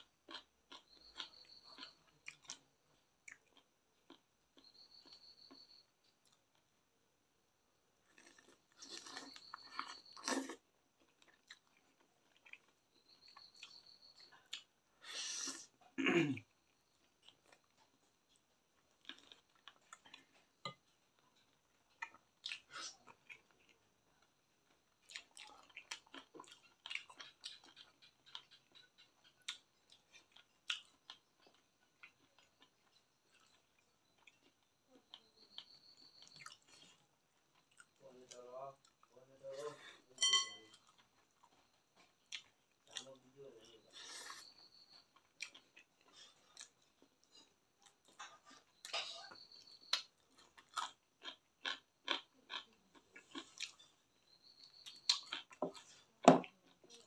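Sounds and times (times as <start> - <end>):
chewing food: 0.0 - 6.8, 8.0 - 39.2, 39.9 - 57.0.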